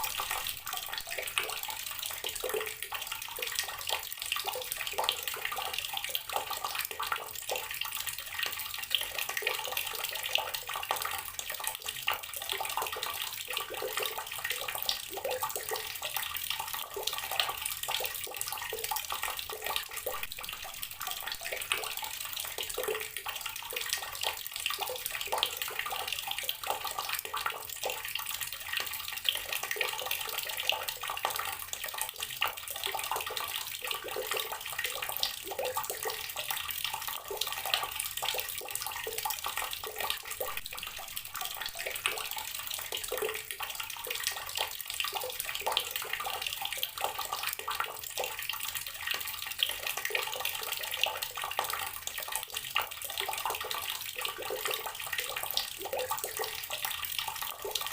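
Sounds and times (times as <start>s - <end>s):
water running from a tap: 0.0s - 57.9s.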